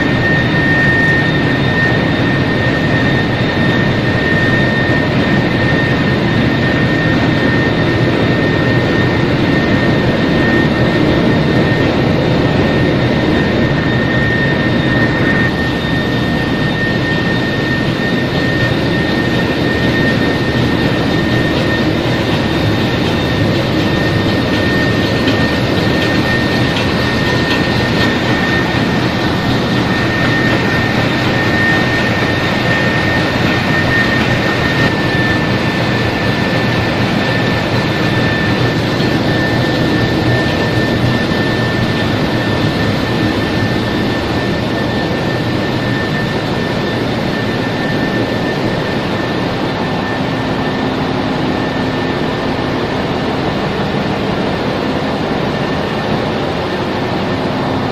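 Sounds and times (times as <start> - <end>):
engine room machinery: 0.0 - 57.9
high whine: 0.0 - 57.9.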